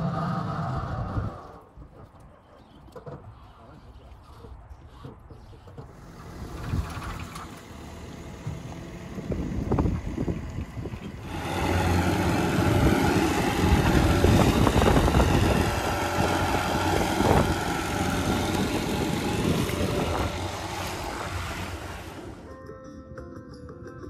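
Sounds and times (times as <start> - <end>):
boat engine running: 0.8 - 22.5.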